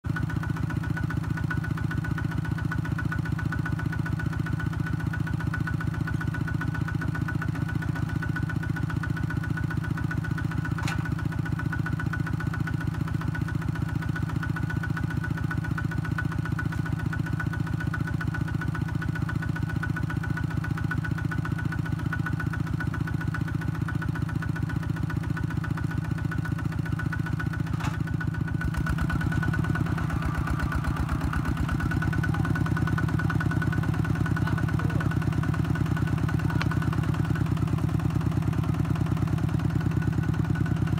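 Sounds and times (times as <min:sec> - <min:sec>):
diesel engine chugging: 0:00.1 - 0:40.9.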